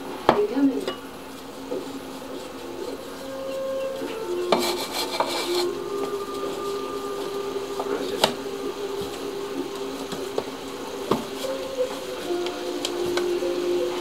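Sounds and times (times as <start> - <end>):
crinkly hiss of plastic gloves: 0.0 - 14.0
held low tones: 0.9 - 14.0.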